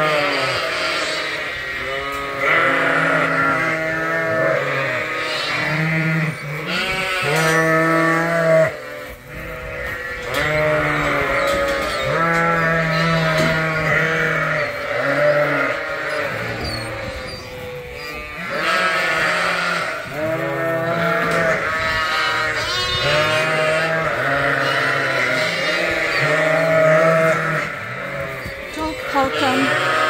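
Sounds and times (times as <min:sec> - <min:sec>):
sheep bleating: 0:00.0 - 0:30.0.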